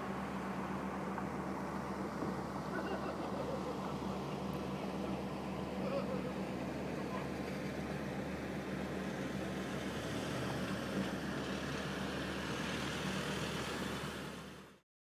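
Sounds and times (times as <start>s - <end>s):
barge diesel engine running: 0.0s - 14.8s
water wash: 0.0s - 14.8s.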